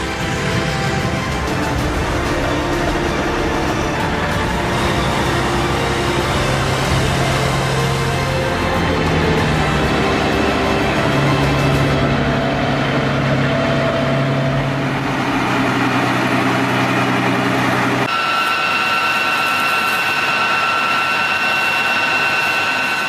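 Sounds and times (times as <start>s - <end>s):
heavy diesel engine droning: 0.0s - 23.0s.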